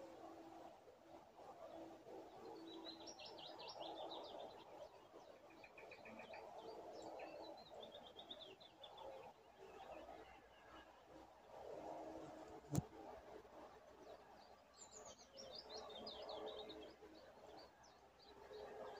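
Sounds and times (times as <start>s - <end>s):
songbirds chirping and trilling: 0.0s - 18.9s.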